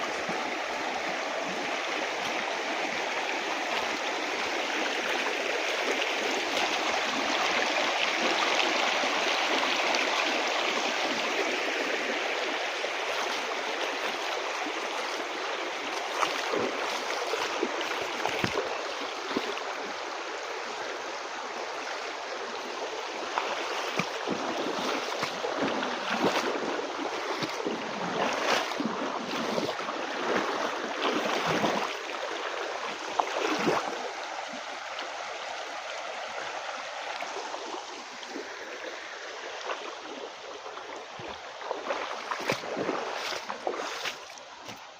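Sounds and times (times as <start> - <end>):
stream water running: 0.0 - 44.9
water splashing and gurgling: 0.0 - 44.9.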